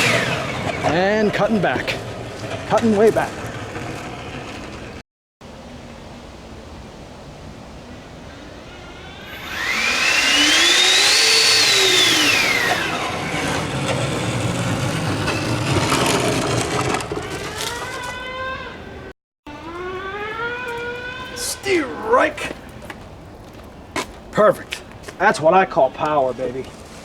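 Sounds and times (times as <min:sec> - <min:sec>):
electric ducted fans whining: 0:00.0 - 0:26.7.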